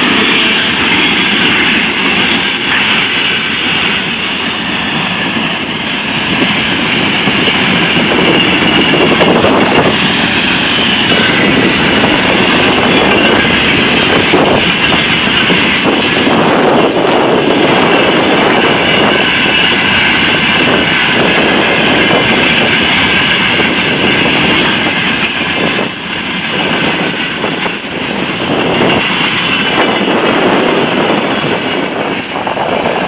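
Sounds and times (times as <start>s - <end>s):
freight train running on rails: 0.0s - 33.0s.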